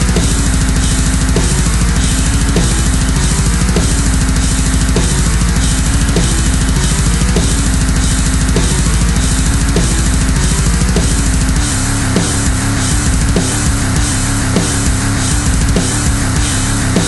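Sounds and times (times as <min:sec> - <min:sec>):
drum kit pounding beat: 0:00.0 - 0:17.0
heavy metal music: 0:00.0 - 0:17.0.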